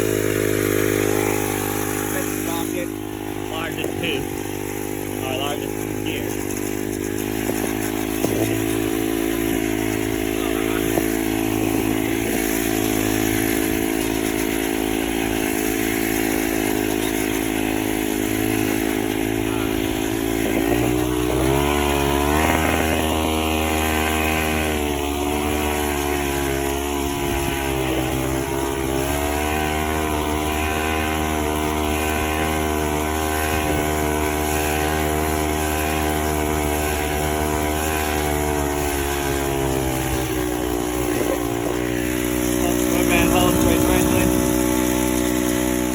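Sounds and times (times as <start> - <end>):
two-stroke engine running: 0.0 - 45.9.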